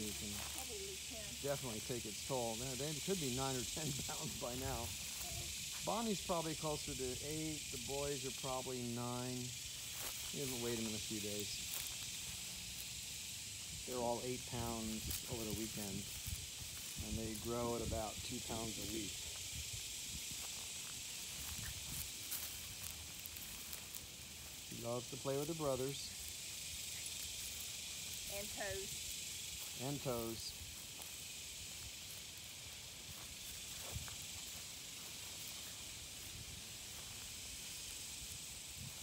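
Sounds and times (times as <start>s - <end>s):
high outdoor hiss: 0.0s - 39.0s.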